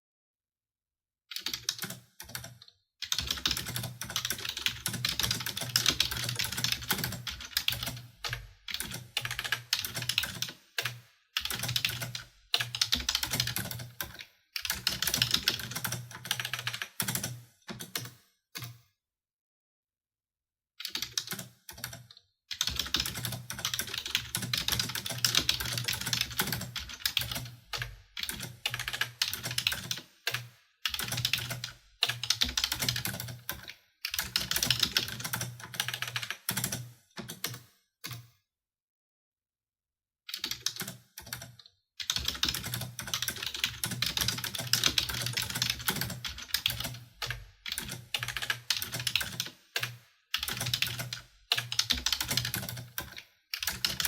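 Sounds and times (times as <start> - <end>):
computer keyboard typing: 1.3 - 18.8, 20.8 - 38.3, 40.3 - 54.0.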